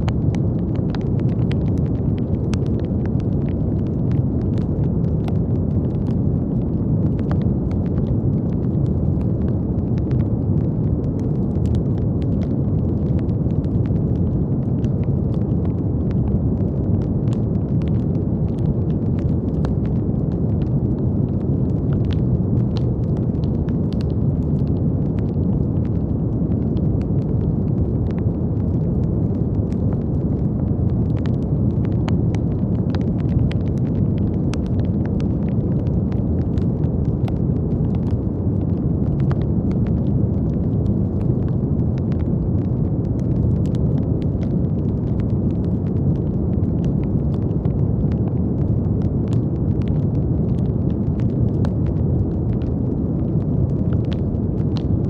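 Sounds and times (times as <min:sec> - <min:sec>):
faint crackles: 0:00.0 - 0:55.0.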